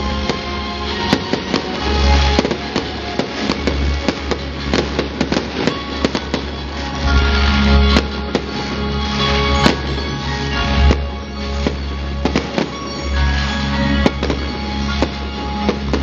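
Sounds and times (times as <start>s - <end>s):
fireworks cracking and banging: 0.0s - 16.0s
music playing: 0.0s - 16.0s.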